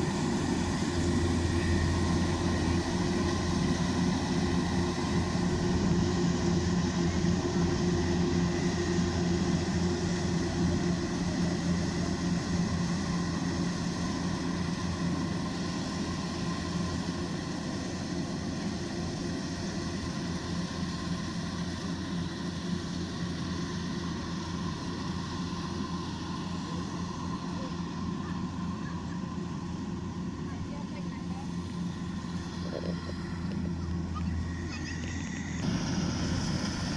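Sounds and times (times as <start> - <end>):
combine harvester engine droning: 0.0 - 36.9.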